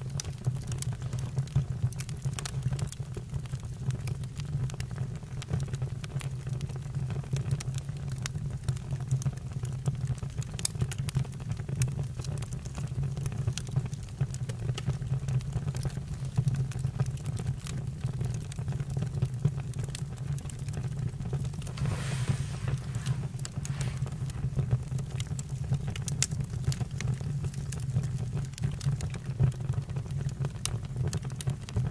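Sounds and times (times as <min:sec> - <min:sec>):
campfire burning: 0:00.0 - 0:31.9.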